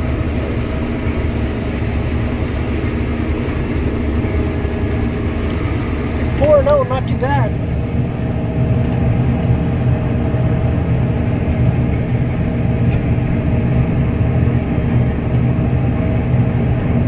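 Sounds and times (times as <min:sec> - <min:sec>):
combine harvester hum: 0:00.0 - 0:17.0.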